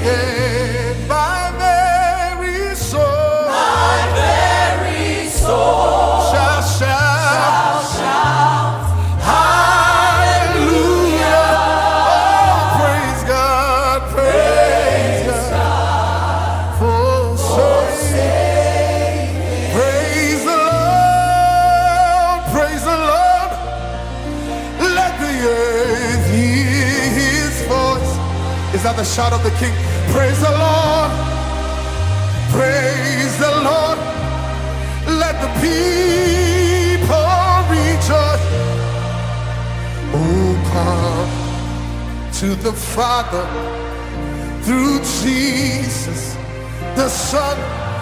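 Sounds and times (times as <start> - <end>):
live gospel choir with band: 0.0 - 48.0.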